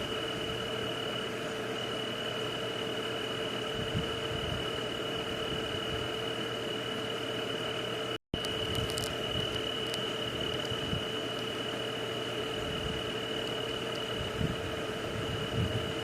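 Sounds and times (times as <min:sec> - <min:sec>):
insects and frogs chorus: 0:00.0 - 0:16.0.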